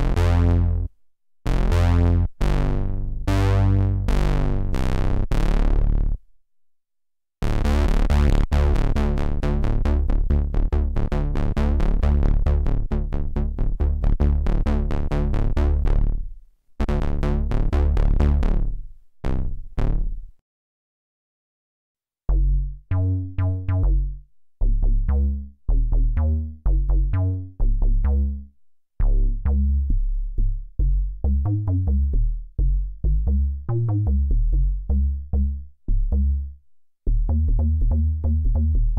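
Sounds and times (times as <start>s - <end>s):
plucky synth bass riff: 0.0s - 0.9s, 1.5s - 6.2s, 7.4s - 20.2s, 22.3s - 38.9s
synthesizer bass notes: 0.0s - 0.9s, 1.5s - 6.2s, 7.4s - 20.3s, 22.3s - 38.9s.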